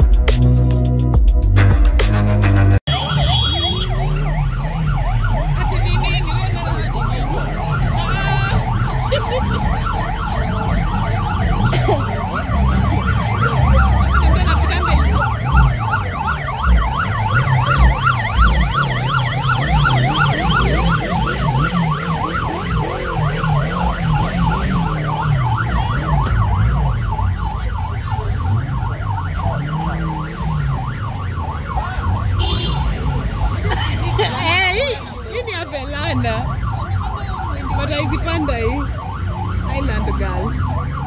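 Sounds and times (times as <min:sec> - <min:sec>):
siren yelping: 0:02.9 - 0:41.0.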